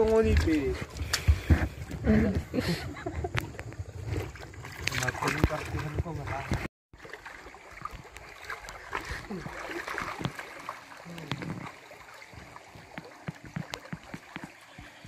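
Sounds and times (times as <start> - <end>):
stream trickling over rocks: 0.0 - 2.0, 3.3 - 15.0
splashes of people wading: 0.0 - 15.0.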